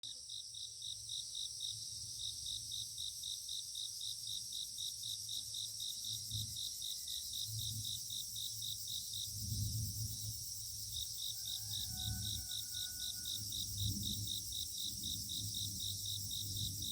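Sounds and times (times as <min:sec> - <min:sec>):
insect chirping: 0:00.1 - 0:16.9
crickets chirring: 0:00.2 - 0:16.9.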